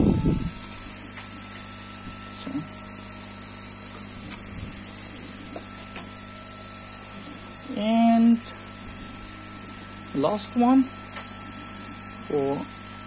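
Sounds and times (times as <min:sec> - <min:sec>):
air pump humming and hissing: 0:00.0 - 0:13.0.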